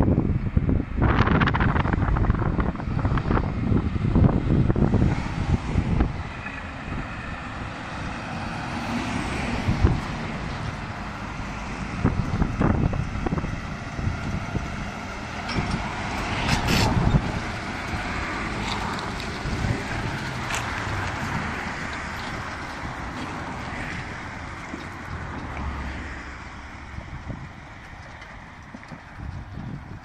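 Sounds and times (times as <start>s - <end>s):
tractor diesel engine: 0.0s - 30.0s
wind buffeting microphone: 0.0s - 30.0s
lorry passing: 2.8s - 29.1s.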